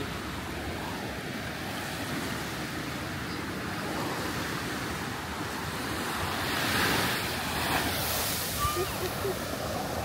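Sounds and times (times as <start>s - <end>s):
surf: 0.0s - 10.0s.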